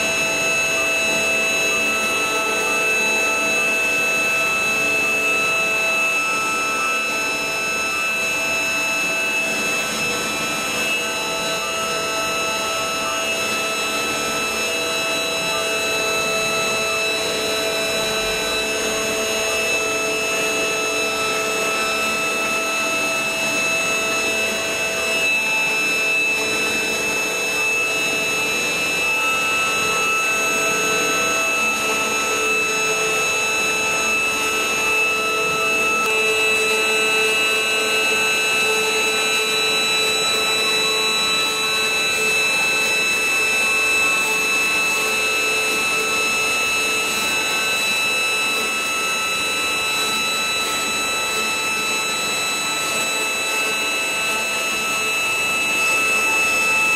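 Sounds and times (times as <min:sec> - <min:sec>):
router spindle whine: 0:00.0 - 0:56.9.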